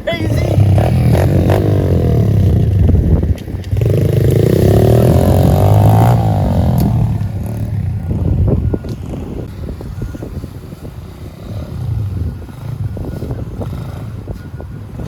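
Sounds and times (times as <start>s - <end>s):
pit bike engine revving: 0.3s - 15.0s.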